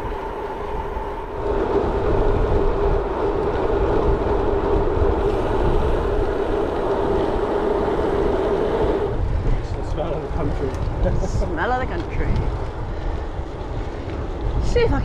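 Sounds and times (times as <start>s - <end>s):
bike tyres droning on tarmac: 0.0s - 15.0s
wind buffeting microphone: 0.0s - 15.0s.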